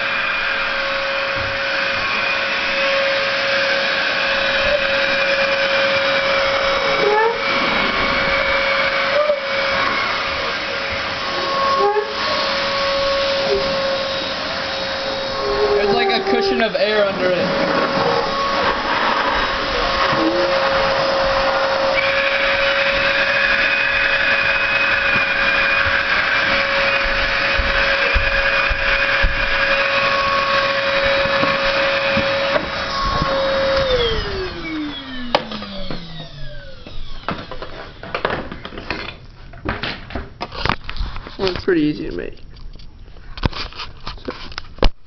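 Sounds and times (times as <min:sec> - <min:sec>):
vacuum cleaner running: 0:00.0 - 0:39.1.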